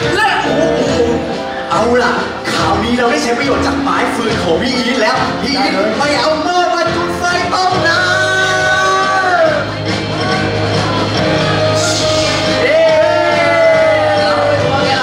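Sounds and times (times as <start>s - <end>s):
backing music with steady bass: 0.0s - 15.0s.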